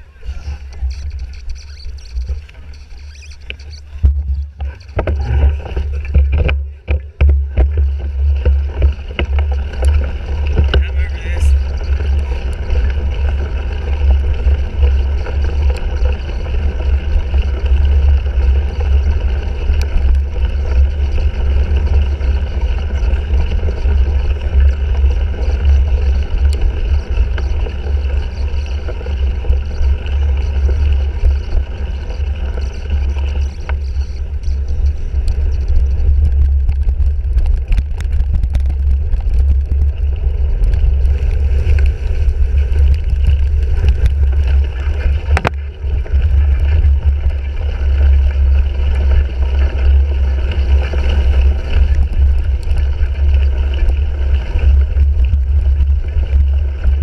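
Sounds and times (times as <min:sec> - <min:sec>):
bike clicks and rattles: 0:00.0 - 0:57.0
bike tyre and drivetrain noise: 0:00.0 - 0:57.0
wind rumbling on microphone: 0:00.0 - 0:57.0.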